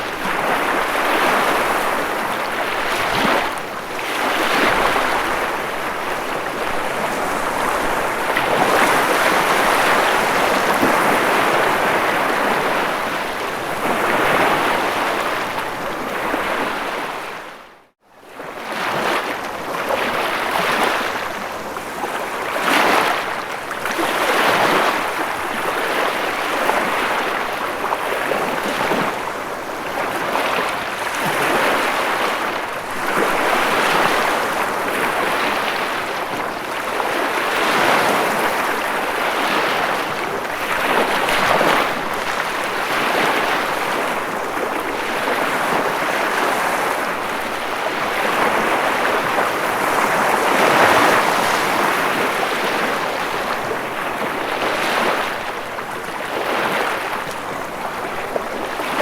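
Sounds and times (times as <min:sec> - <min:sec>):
ocean waves washing onto shore: 0:00.0 - 0:17.6, 0:18.3 - 0:59.0.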